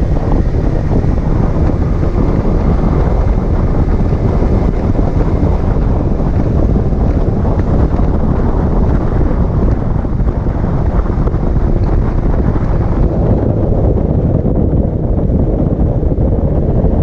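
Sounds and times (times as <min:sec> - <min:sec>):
vehicle running noise: 0:00.0 - 0:17.0
wind on microphone: 0:00.0 - 0:17.0.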